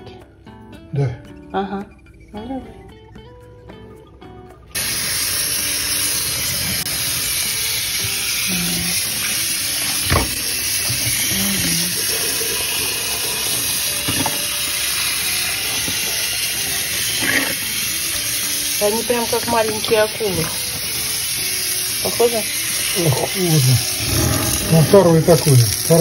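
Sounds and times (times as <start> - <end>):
tap water running into sink: 4.8 - 26.0.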